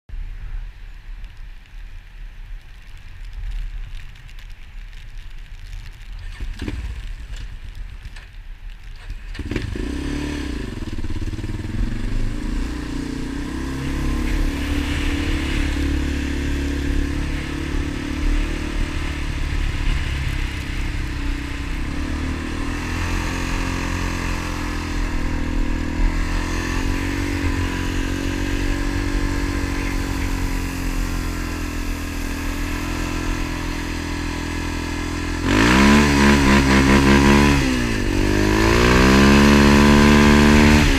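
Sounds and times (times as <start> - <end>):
motorcycle engine revving: 6.2 - 7.6, 9.0 - 40.9.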